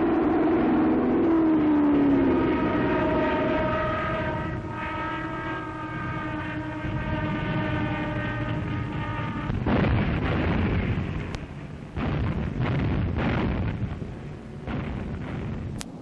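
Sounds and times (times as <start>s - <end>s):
propeller aircraft engines droning: 0.0s - 16.0s.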